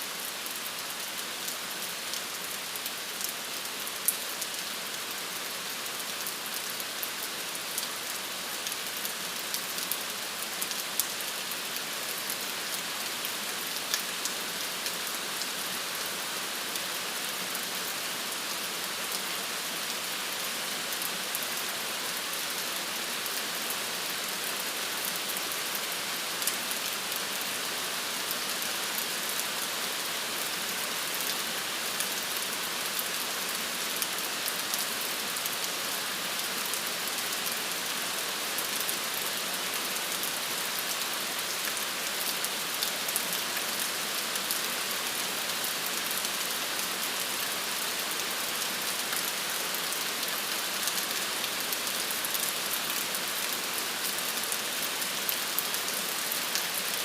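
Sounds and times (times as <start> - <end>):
rain pattering on surface: 0.1 - 57.0.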